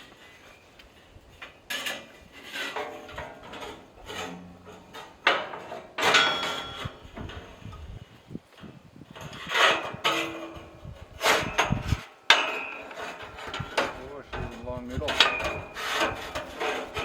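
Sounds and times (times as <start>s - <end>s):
hard objects scraping and knocking: 0.0s - 17.0s
short metallic rings: 1.4s - 8.0s, 9.2s - 17.0s.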